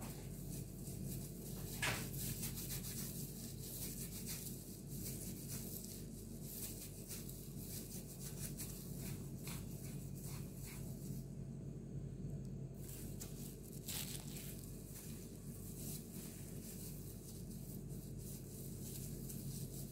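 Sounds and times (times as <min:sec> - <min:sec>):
plastic gloves rustling: 0:00.0 - 0:11.5, 0:12.4 - 0:19.9
steady low hum: 0:00.0 - 0:19.9.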